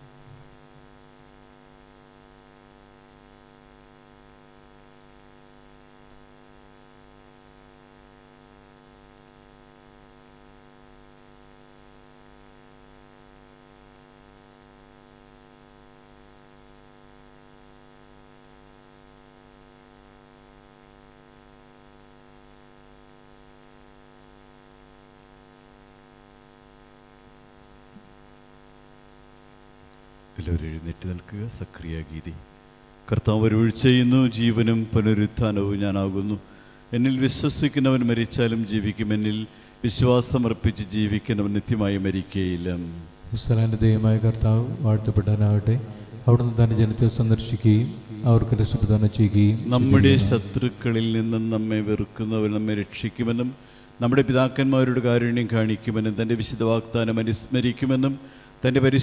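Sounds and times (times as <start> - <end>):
electrical mains hum: 0.0 - 59.0.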